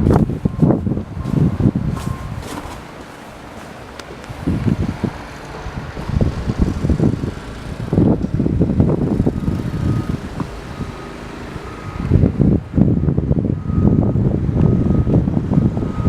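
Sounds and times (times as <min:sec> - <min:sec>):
wind gusting against microphone: 0:00.0 - 0:16.0.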